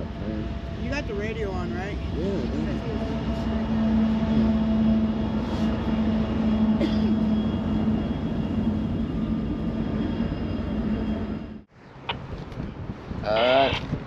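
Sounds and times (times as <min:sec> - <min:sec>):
diesel locomotives droning: 0:00.0 - 0:12.3.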